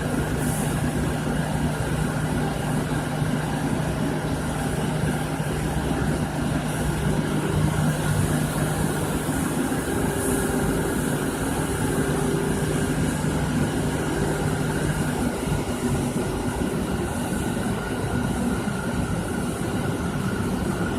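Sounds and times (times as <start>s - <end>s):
machine droning: 0.0s - 20.9s.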